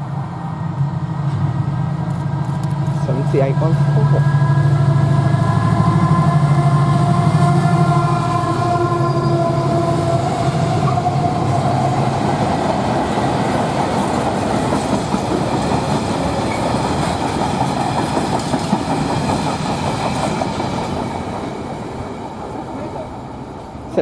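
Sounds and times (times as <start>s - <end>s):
diesel locomotive engine: 0.0s - 24.0s
train rumbling over rails: 0.0s - 24.0s.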